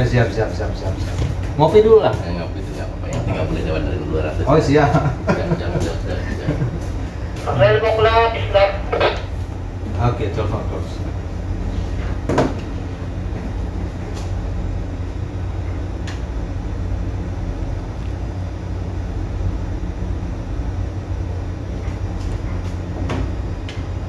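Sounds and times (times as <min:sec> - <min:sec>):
ship engines low rumble: 0:00.0 - 0:24.0.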